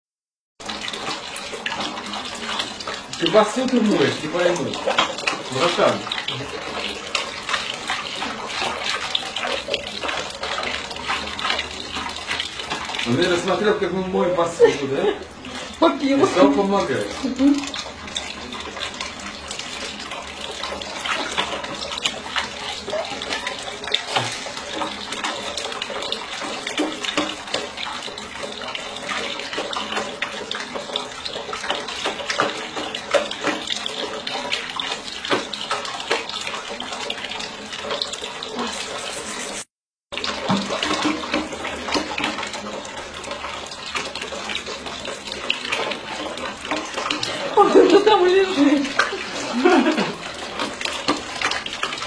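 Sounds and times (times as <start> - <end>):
tap water running into sink: 0.6 - 52.0.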